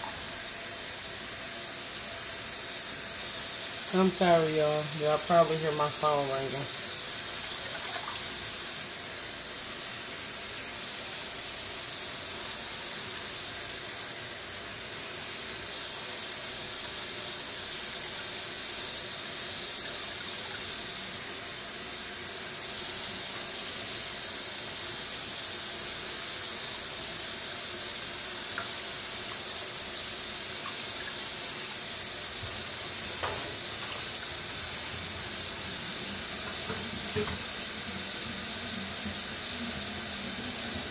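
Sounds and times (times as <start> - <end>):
faucet running into sink: 0.0 - 40.9
water splashing from rinsing: 2.5 - 25.2, 25.8 - 40.9.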